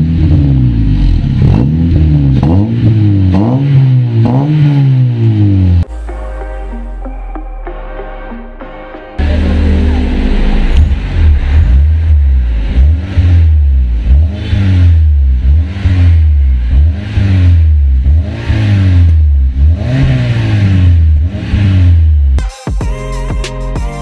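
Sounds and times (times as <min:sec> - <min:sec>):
car exhaust revving: 0:00.0 - 0:22.4.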